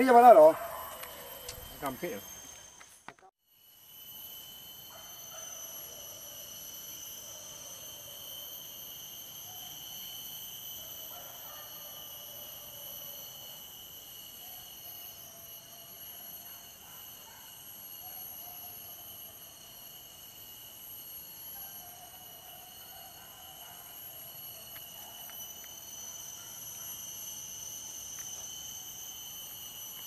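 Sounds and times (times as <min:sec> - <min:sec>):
fainter wavering insect calls: 0:00.0 - 0:30.0
shrill insect chorus: 0:00.0 - 0:30.0.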